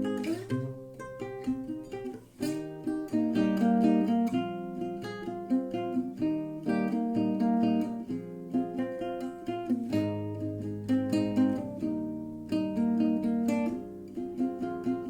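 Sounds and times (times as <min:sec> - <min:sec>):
acoustic guitar plucking: 0:00.0 - 0:15.0.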